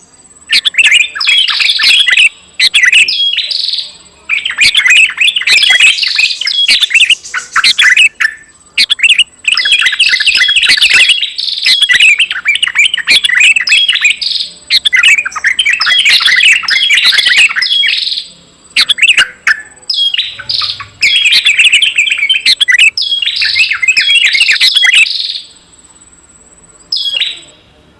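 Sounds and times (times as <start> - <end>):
faint high whine: 0.0 - 27.9
songbirds twittering chirps: 0.0 - 27.9.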